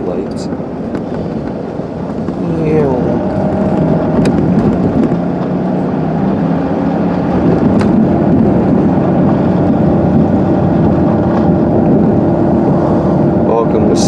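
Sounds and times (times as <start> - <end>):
car engine humming inside cabin: 0.0 - 14.0
road noise: 0.0 - 14.0.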